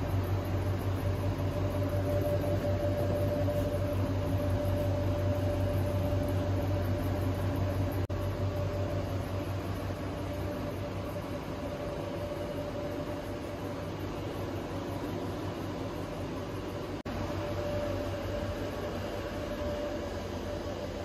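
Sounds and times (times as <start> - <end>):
faint steady whine: 0.0 - 21.0
low mechanical drone: 0.0 - 21.0.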